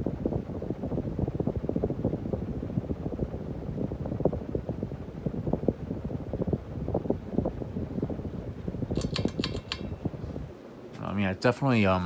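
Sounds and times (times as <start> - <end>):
ceiling fan wind buffeting microphone: 0.0 - 12.0.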